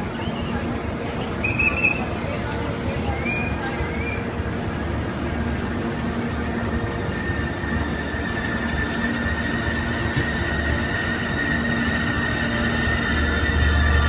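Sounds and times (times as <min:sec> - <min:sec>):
high steady whine: 0:00.0 - 0:14.0
train rumble: 0:00.0 - 0:14.0.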